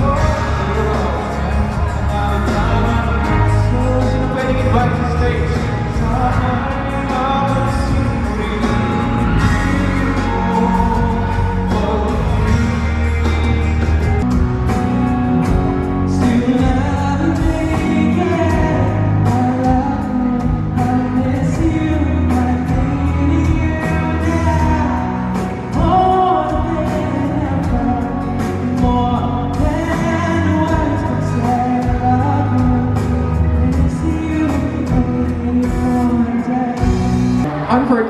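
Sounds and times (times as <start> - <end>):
man singing into microphone: 0.0 - 13.9, 16.0 - 38.0
backing music with drums: 0.0 - 37.7.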